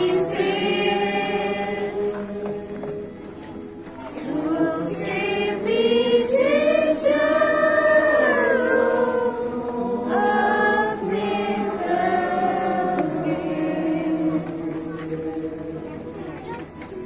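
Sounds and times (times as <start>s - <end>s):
choir singing: 0.0s - 3.2s, 4.0s - 16.4s.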